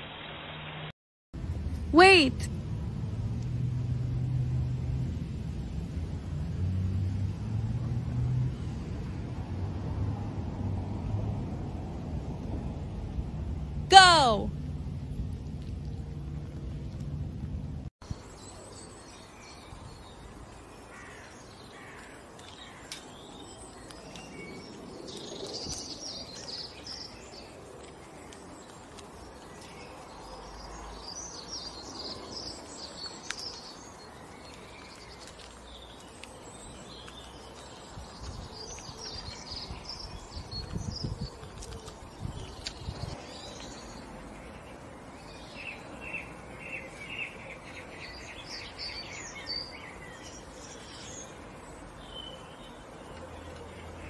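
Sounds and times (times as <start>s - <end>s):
outdoor ambience: 0.0s - 54.0s.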